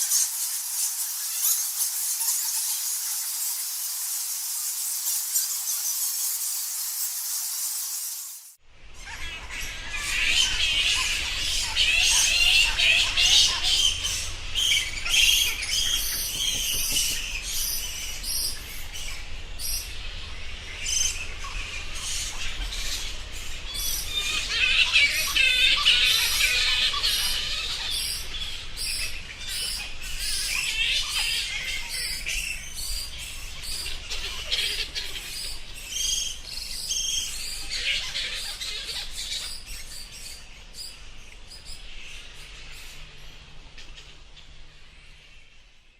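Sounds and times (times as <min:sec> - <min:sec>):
bats squeaking and chattering: 0:00.0 - 0:20.1, 0:20.7 - 0:41.8.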